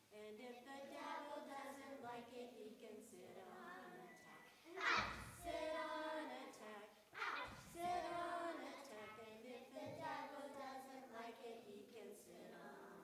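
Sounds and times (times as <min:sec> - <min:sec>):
children singing: 0:00.4 - 0:13.0.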